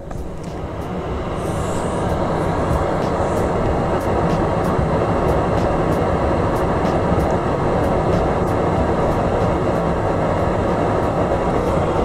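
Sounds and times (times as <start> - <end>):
fume extractor fan running: 0.0 - 12.0.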